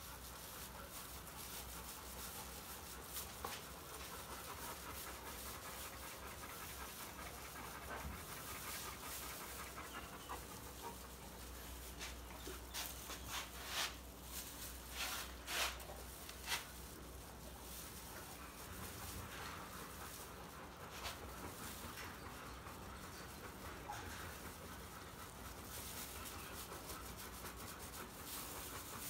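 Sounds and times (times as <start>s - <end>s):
large dog panting: 0.0s - 29.0s.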